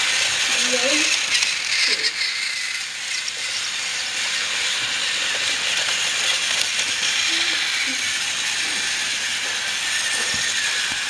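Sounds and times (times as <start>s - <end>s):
toy train motor whirring: 0.0s - 11.0s.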